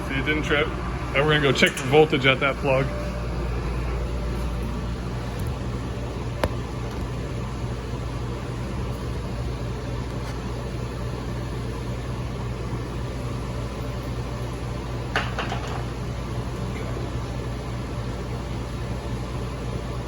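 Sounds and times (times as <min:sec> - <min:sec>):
electrical equipment and fans humming: 0:00.0 - 0:20.0
low electrical drone: 0:00.0 - 0:20.0.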